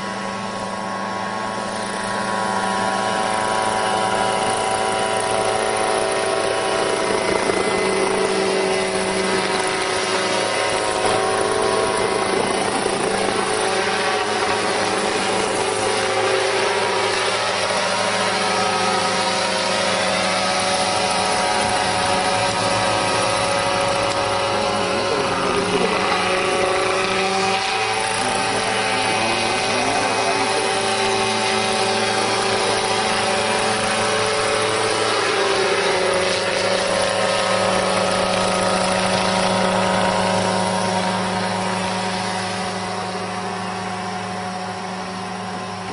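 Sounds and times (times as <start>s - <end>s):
small helicopter engine and rotor: 0.0s - 45.9s.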